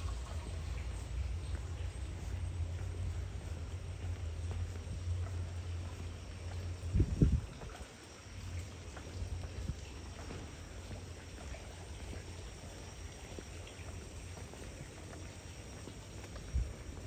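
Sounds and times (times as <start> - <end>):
faint drips and taps: 0.0 - 17.0
rain hissing on street: 0.0 - 17.0
steady low hum: 0.0 - 17.0.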